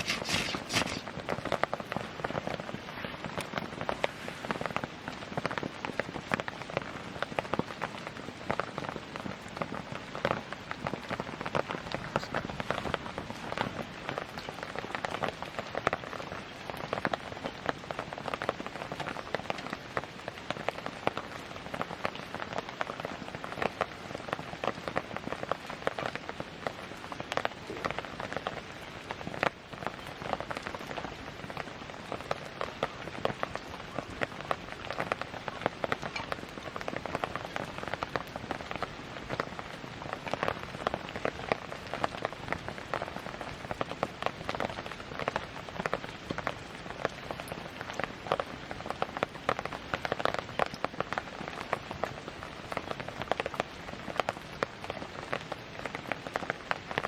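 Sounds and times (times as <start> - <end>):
fire popping and snapping: 0.0 - 54.8
campfire crackling: 0.0 - 57.0.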